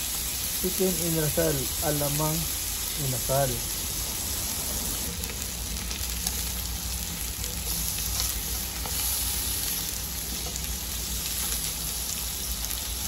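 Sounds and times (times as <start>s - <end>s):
chicken sizzling on a grill: 0.0s - 13.0s.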